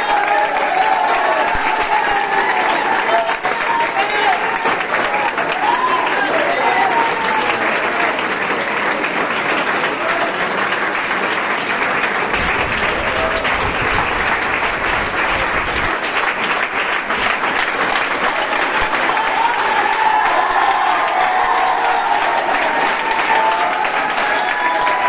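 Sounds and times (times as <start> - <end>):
crowd clapping: 0.0 - 25.0.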